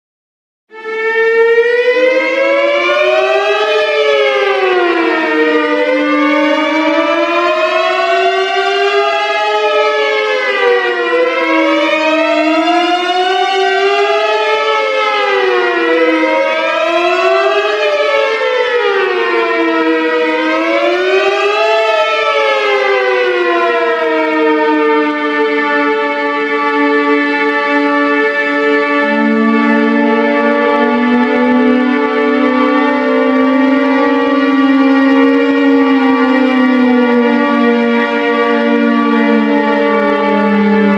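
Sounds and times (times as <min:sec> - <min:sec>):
emergency alert siren tones: 0:00.7 - 0:40.9.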